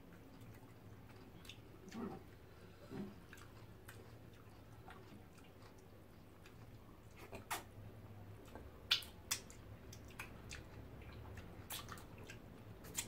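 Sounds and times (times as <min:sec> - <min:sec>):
wet mouth eating sounds: 0:00.0 - 0:07.8, 0:08.4 - 0:13.0.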